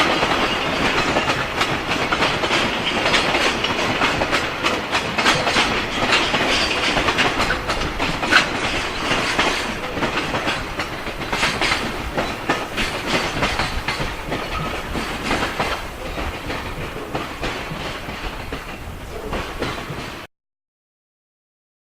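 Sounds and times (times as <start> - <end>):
loud train rumble: 0.0 - 20.3
train wheels clacking over rail joints: 0.0 - 20.3.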